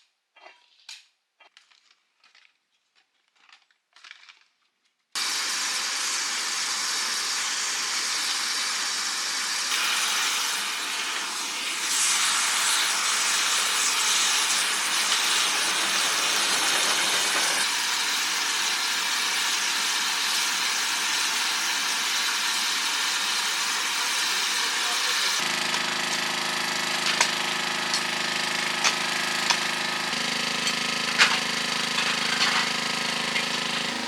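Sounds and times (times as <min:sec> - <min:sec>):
loud hissing of welding: 0:05.2 - 0:34.0.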